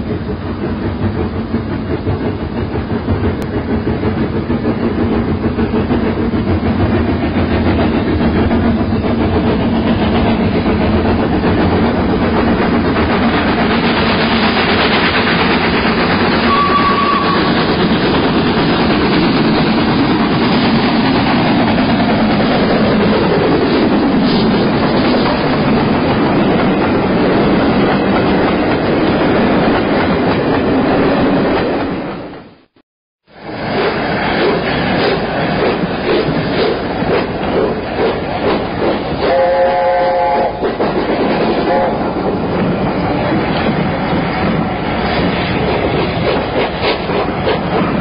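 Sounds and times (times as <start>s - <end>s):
steam train rumbling: 0.0s - 48.0s.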